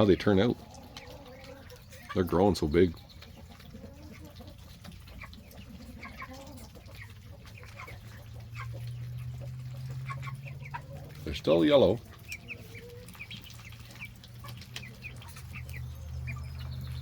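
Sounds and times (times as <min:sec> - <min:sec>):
chicks peeping and clucking: 0:00.0 - 0:17.0.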